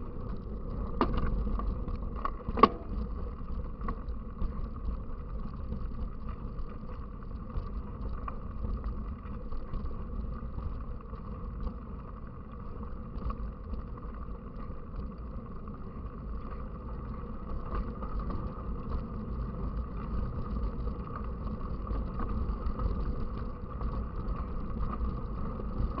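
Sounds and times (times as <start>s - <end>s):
bicycle rolling rumble: 0.0s - 26.0s
small clicks and rattles: 0.0s - 26.0s.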